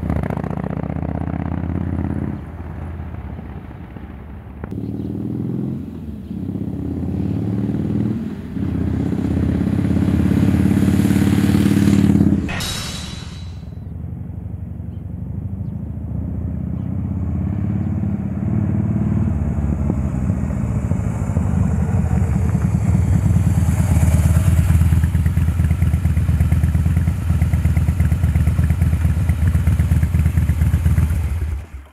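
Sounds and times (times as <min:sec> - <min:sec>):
motorcycle exhaust rumble: 0:00.0 - 0:12.6, 0:13.3 - 0:31.9.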